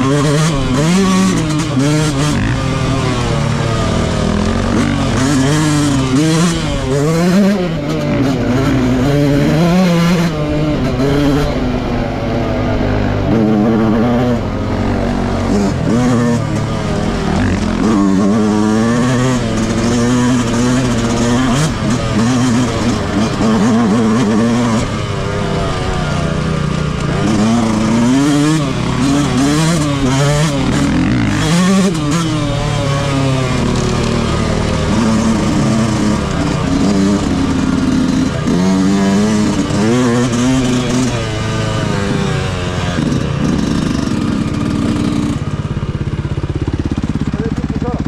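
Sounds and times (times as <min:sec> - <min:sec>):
motocross engine revving: 0:00.0 - 0:48.0.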